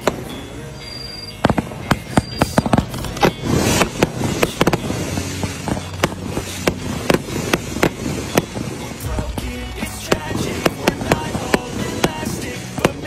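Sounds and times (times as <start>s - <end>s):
hissing crackle: 1.2s - 13.0s
fireworks bangs and pops: 1.4s - 13.0s.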